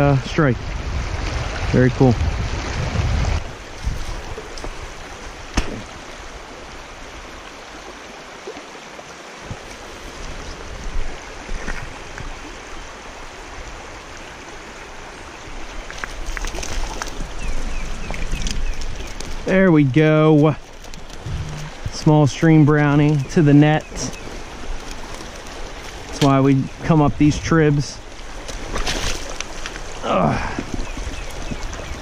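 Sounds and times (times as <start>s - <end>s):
stream flowing over rocks: 0.0s - 32.0s.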